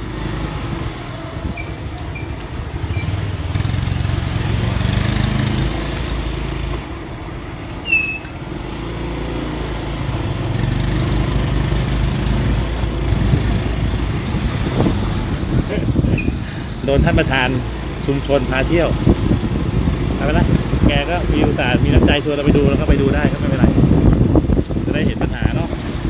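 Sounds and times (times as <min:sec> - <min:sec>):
motorcycle engine running: 0:00.0 - 0:26.0
tyres on wet road: 0:00.0 - 0:26.0.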